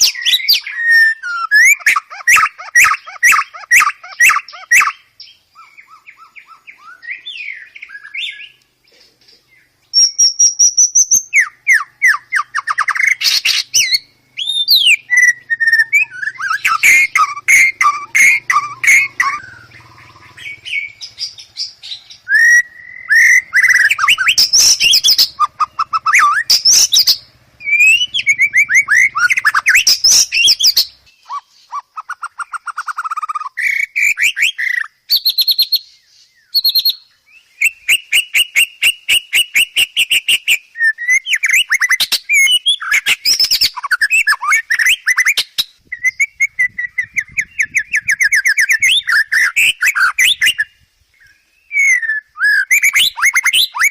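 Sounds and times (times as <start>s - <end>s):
bird singing whistled trills: 0.0s - 53.9s.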